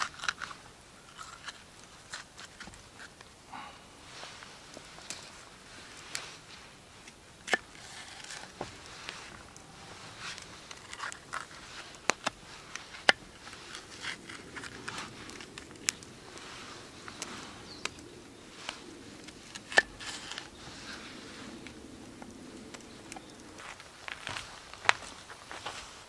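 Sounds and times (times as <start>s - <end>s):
pepper rustling: 0.0s - 26.0s.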